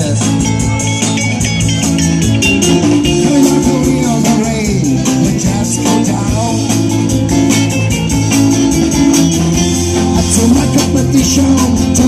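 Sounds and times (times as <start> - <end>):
drum and cymbal beat: 0.0 - 12.0
electric guitars: 0.0 - 12.0.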